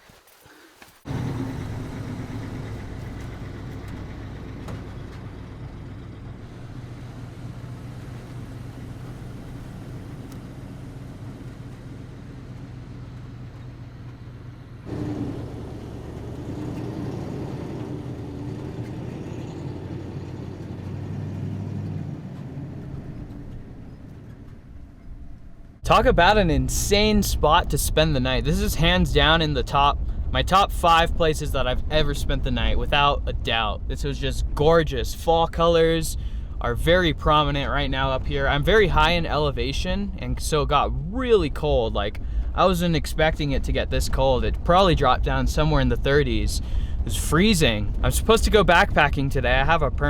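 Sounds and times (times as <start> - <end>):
road noise: 0.7 - 50.0
truck engine humming: 1.0 - 50.0.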